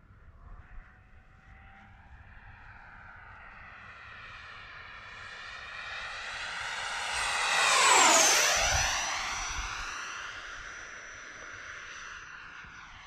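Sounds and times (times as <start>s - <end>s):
model jet fan whine: 1.1s - 13.0s.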